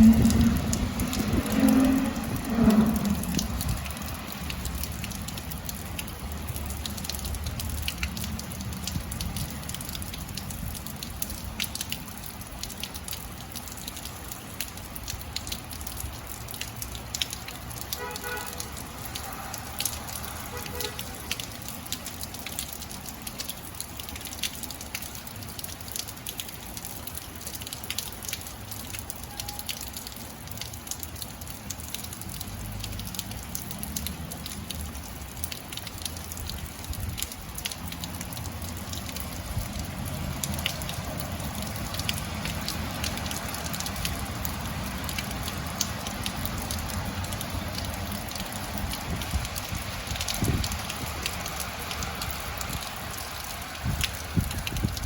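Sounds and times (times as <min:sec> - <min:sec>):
rain hiss: 0:00.0 - 0:55.0
raindrops pattering: 0:00.0 - 0:55.0.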